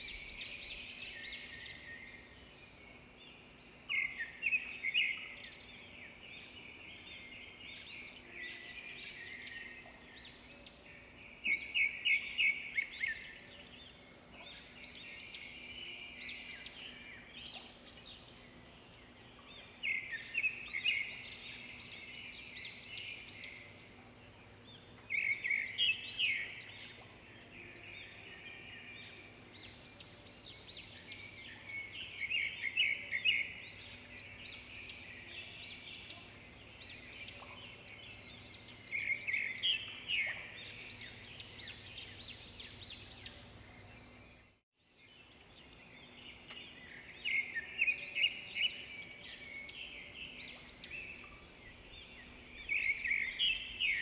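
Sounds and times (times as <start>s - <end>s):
faint steady background noise: 0.0s - 54.0s
songbirds chirping and trilling: 0.0s - 54.0s.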